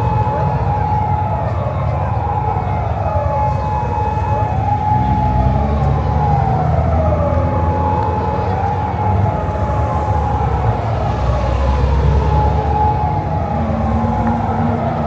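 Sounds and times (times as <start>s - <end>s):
siren wailing: 0.0s - 15.0s
low engine rumble: 0.4s - 15.0s.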